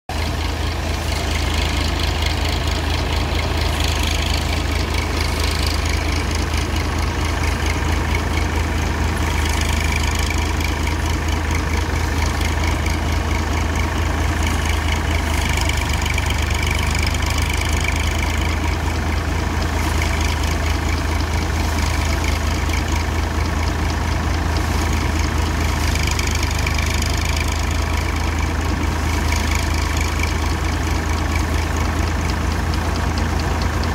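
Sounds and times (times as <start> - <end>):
tractor engine droning: 0.1 - 33.9.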